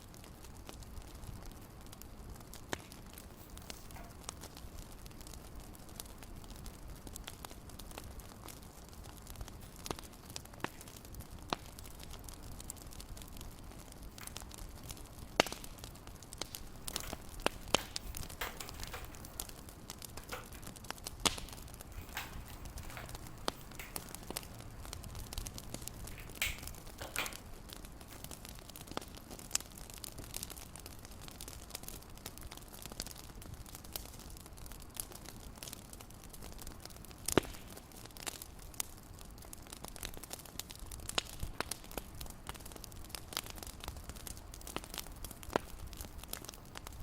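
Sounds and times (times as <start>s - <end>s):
fireplace crackling: 0.0s - 47.0s.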